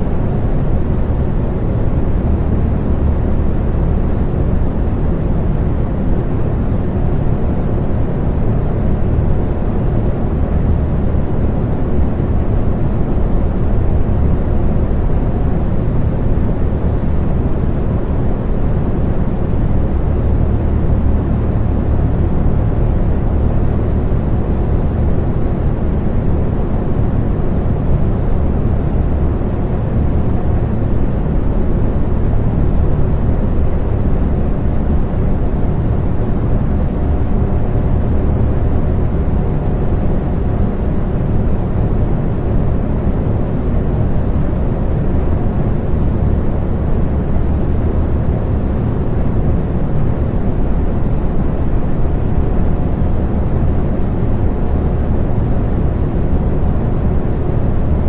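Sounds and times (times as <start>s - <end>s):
faint motor hum: 0.0s - 58.0s.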